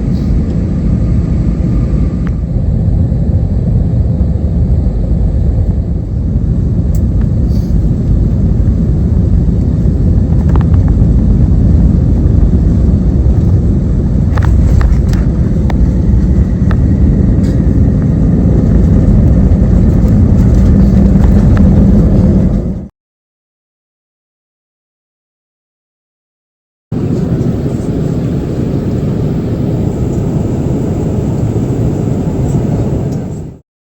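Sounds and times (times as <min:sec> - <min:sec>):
vehicle rumbling in motion: 0:00.0 - 0:22.9, 0:27.0 - 0:33.6.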